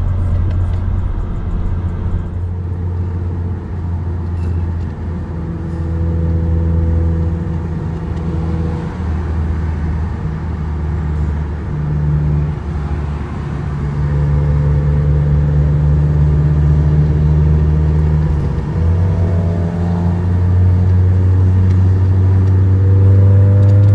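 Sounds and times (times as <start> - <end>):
car engine droning in cabin: 0.0 - 23.9.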